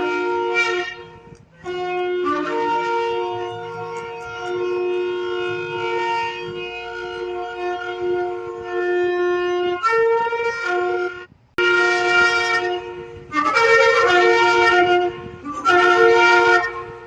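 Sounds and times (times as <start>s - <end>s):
shofar blasts: 0.0s - 17.0s.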